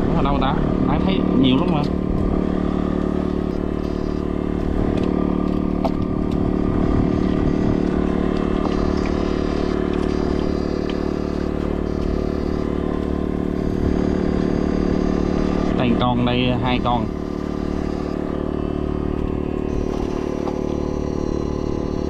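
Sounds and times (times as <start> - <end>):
steady motor drone: 0.0 - 22.0.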